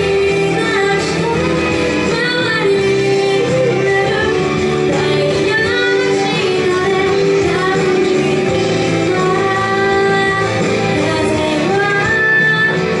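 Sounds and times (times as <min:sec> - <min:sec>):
instrumental accompaniment: 0:00.0 - 0:13.0
woman singing into a microphone: 0:00.0 - 0:13.0.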